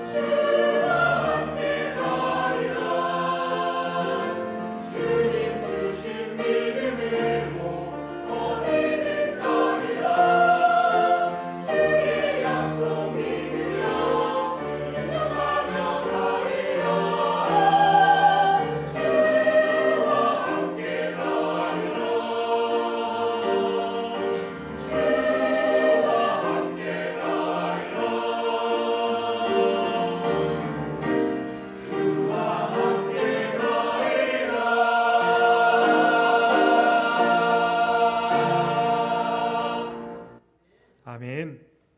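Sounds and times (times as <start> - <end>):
church choir singing a hymn: 0.0 - 40.4.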